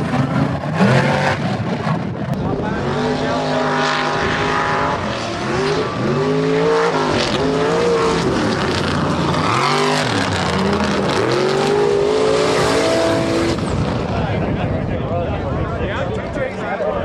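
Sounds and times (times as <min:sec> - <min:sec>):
truck engines revving hard: 0:00.0 - 0:14.9.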